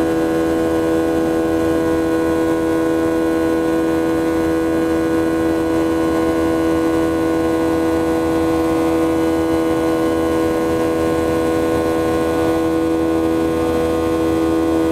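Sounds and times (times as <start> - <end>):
jet engine drone: 0.0 - 14.9
pitched fan tones: 0.0 - 14.9.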